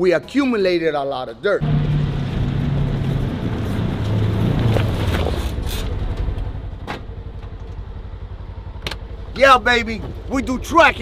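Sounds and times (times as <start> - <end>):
utility vehicle engine passing: 1.6 - 10.9.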